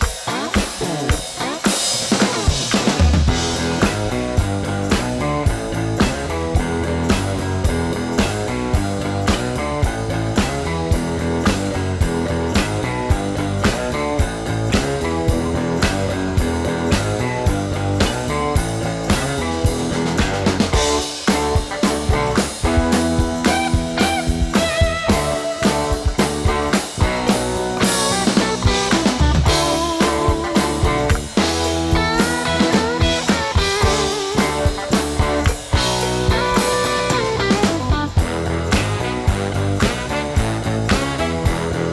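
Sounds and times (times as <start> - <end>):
rock music with drum beat: 0.0 - 41.9.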